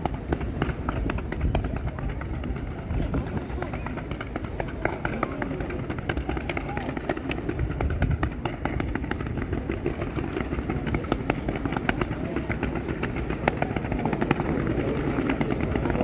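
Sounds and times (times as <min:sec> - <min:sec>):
fireworks cracking and popping: 0:00.0 - 0:16.0
low rumble of explosions: 0:00.0 - 0:16.0.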